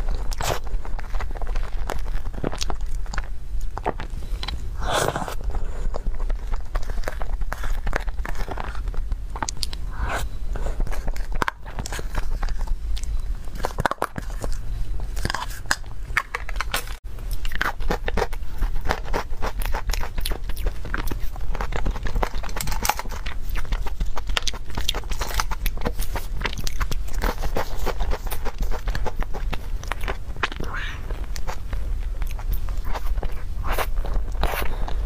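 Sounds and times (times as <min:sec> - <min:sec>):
person biting and chewing: 0:00.0 - 0:35.0.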